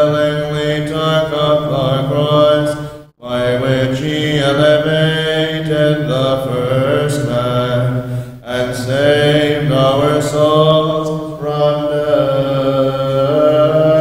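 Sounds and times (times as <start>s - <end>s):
voices chanting together: 0.0s - 14.0s.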